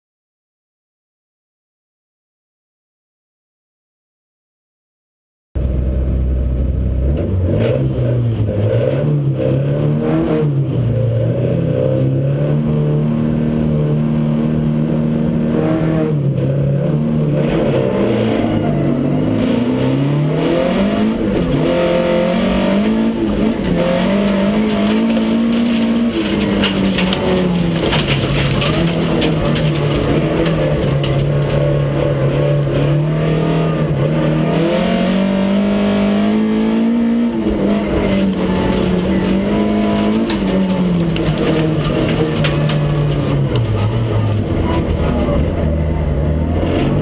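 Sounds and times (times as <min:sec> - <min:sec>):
car engine revving hard: 0:06.9 - 0:47.0.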